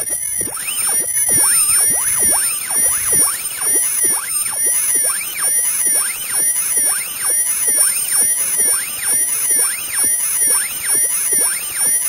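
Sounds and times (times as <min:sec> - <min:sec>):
shrill warbling whistle: 0:00.0 - 0:12.0
sweeping high electronic tones: 0:00.0 - 0:12.0.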